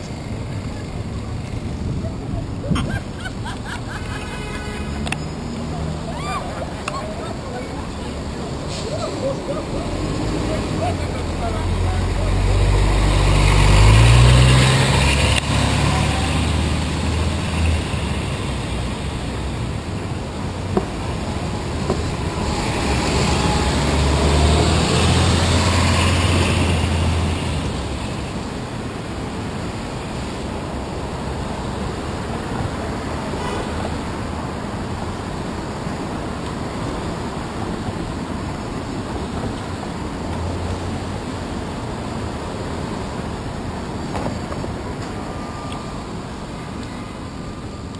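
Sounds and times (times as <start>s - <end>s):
bus engine running: 0.0s - 47.9s
cars passing: 0.0s - 47.9s
steady traffic hum: 0.0s - 47.9s.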